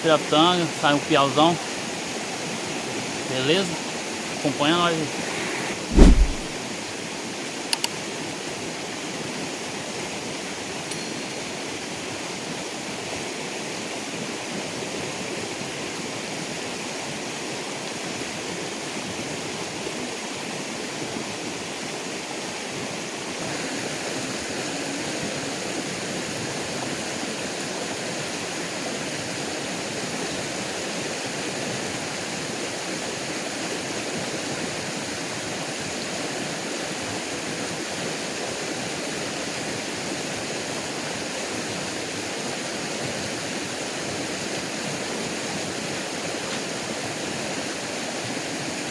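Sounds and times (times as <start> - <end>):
stream water running: 0.0 - 6.6, 7.2 - 48.9.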